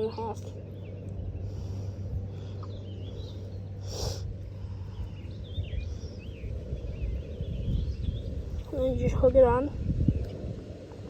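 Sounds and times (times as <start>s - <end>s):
small birds chirping: 0.0s - 10.6s
steady low rumble: 0.0s - 11.0s.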